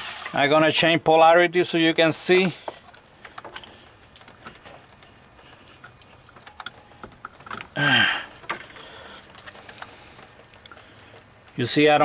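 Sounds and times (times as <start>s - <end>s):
test leads clicking and rattling: 2.2s - 11.8s.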